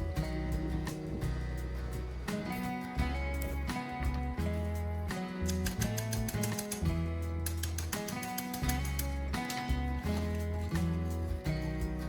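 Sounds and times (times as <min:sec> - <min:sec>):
plucked melody over bass: 0:00.0 - 0:12.0.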